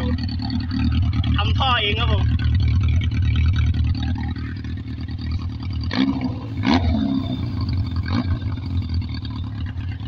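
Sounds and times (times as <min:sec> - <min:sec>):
motorcycle engine idling: 0:00.0 - 0:10.0
throttle blip with exhaust cracks: 0:00.0 - 0:10.0.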